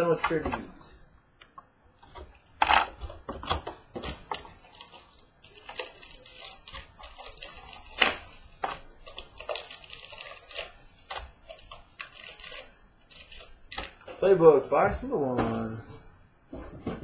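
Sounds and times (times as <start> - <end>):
cardboard and wrapper rustling: 2.0 - 14.4, 15.3 - 17.0.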